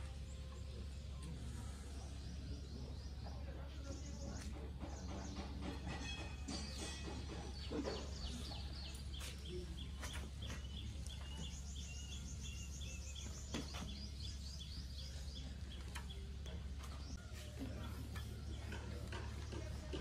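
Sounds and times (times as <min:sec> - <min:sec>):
bird chirping: 0:00.0 - 0:20.0
steady low hum: 0:00.0 - 0:20.0.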